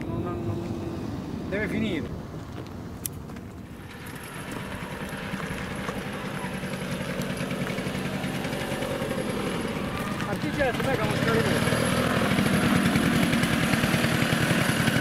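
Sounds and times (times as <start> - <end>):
small truck engine running: 0.0 - 15.0.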